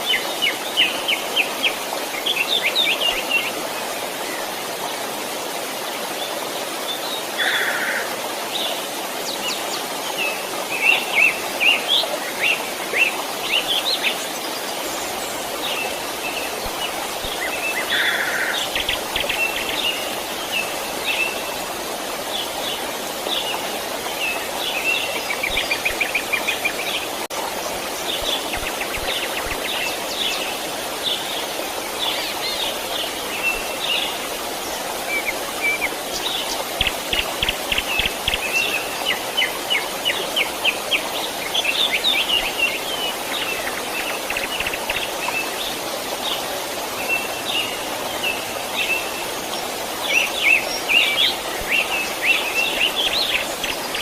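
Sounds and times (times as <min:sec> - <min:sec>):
stream rushing: 0:00.0 - 0:54.0
birds chirping and trilling: 0:06.9 - 0:54.0.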